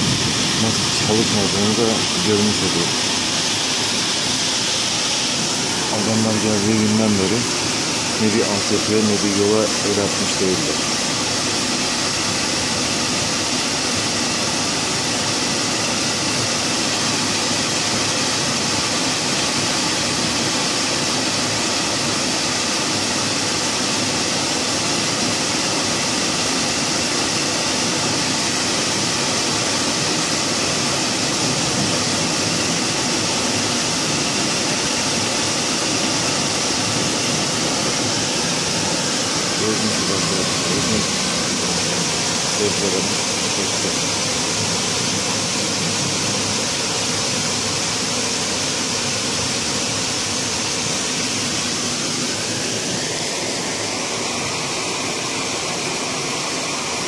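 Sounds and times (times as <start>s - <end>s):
torrential rain pouring: 0.0s - 57.0s.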